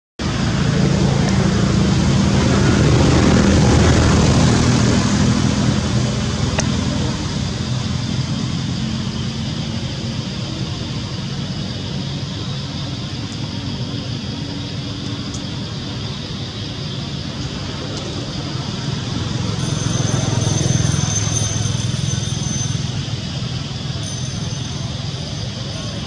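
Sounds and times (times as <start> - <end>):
engine rumble of passing vehicle: 0.2 - 26.0.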